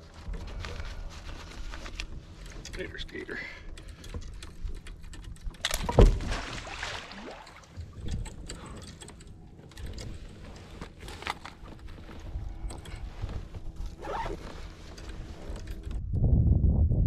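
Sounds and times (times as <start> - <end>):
gear rattling on plastic kayak: 0.0 - 6.4, 7.7 - 16.0.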